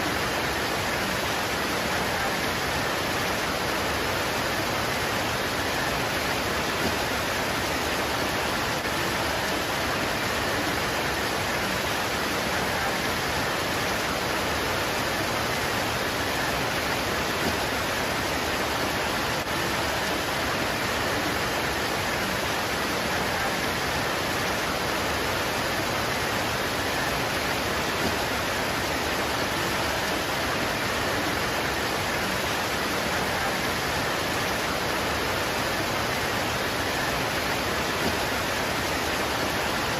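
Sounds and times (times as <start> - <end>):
rain pouring on leaves: 0.0 - 39.9.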